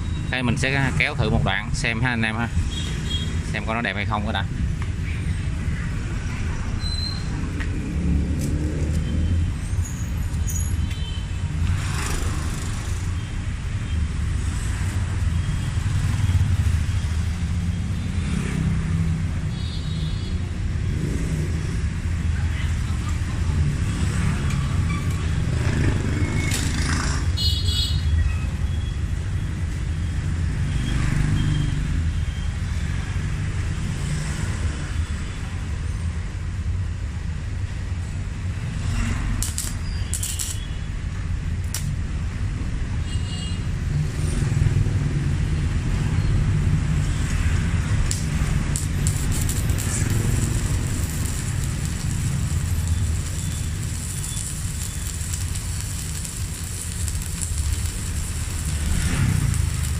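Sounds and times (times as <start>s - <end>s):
welding arc crackle and sizzle: 7.4s - 9.4s, 10.0s - 35.2s, 38.4s - 59.9s.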